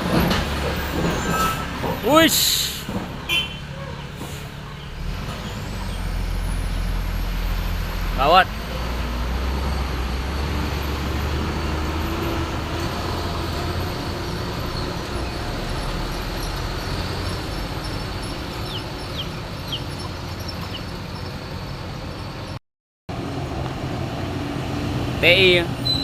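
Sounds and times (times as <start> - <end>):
diesel truck passing: 0.0 - 26.0
traffic noise: 0.0 - 26.0.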